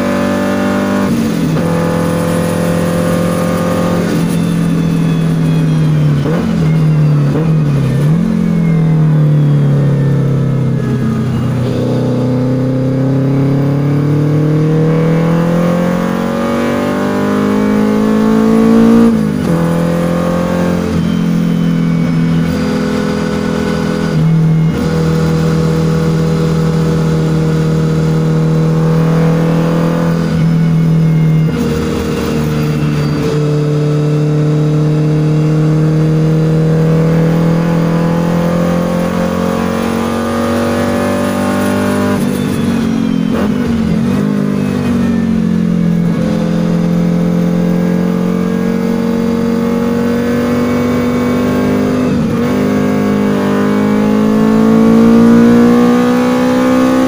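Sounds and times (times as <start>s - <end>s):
car engine accelerating hard: 0.0s - 57.0s
engine blipping on downshifts: 0.0s - 57.0s.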